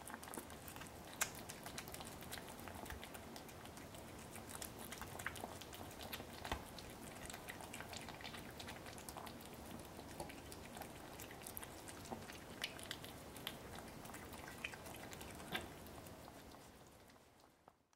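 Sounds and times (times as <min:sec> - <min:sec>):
kittens chewing and lapping: 0:00.0 - 0:17.9.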